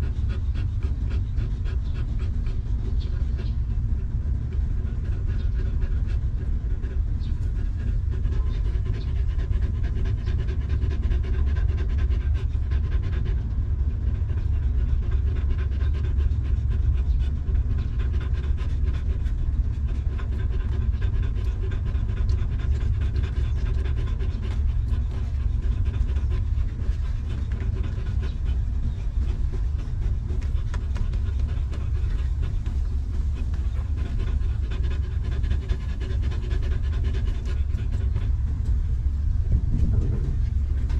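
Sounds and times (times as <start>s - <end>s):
constant low rumble: 0.0s - 40.9s
dog panting: 0.0s - 40.9s.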